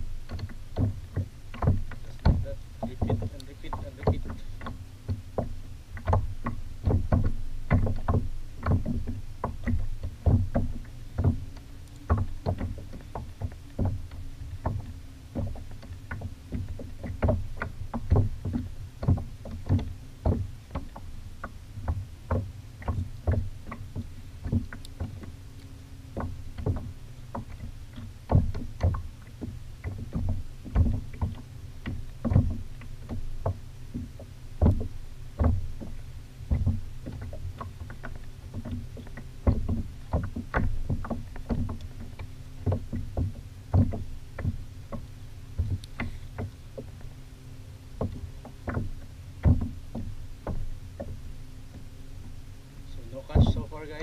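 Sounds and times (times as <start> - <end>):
steady low rumble: 0.0 - 54.0
water slapping plastic hull: 0.0 - 54.0.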